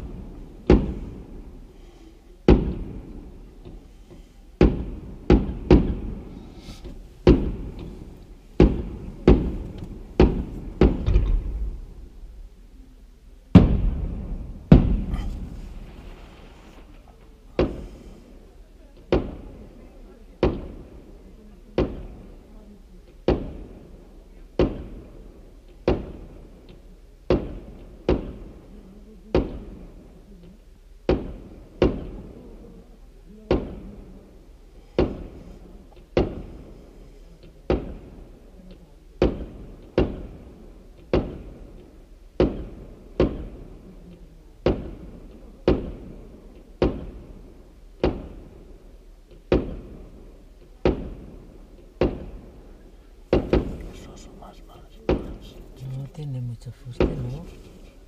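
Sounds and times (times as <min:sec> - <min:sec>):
fireworks bangs echoing: 0:00.0 - 0:12.6, 0:13.5 - 0:22.6, 0:23.2 - 0:30.2, 0:31.0 - 0:56.0, 0:56.8 - 0:58.0.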